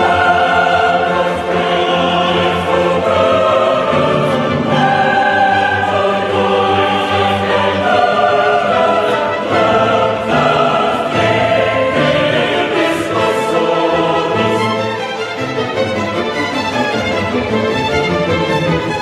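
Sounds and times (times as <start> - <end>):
operatic choir singing: 0.0 - 19.0
orchestra playing: 0.0 - 19.0.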